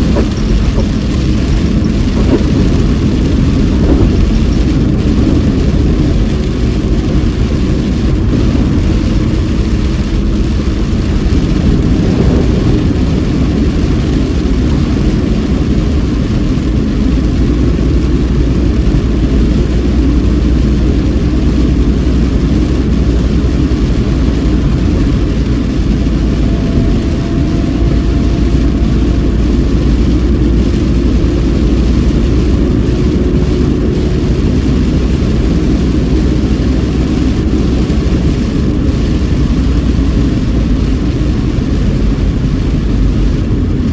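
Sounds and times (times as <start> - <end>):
car engine and tyre rumble: 0.0 - 43.9
rain on a car: 0.0 - 43.9.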